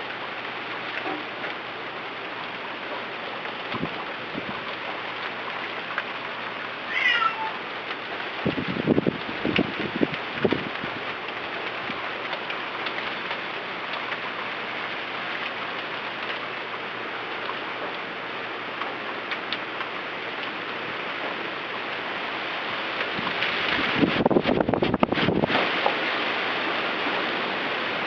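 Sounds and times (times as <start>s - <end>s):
wind-driven rain hissing: 0.0s - 28.0s.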